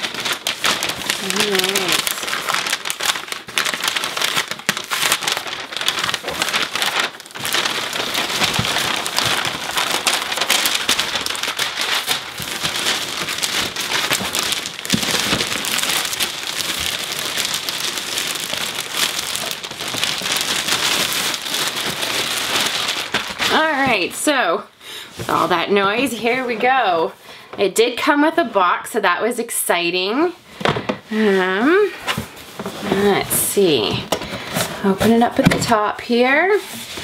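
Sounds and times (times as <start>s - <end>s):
tissue paper and plastic crinkling: 0.0s - 28.6s, 30.0s - 37.0s.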